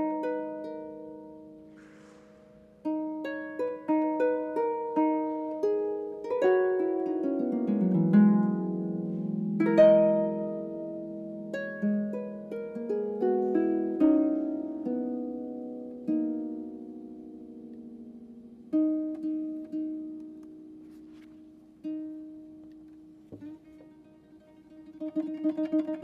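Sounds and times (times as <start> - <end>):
solo harp playing: 0.0 - 26.0.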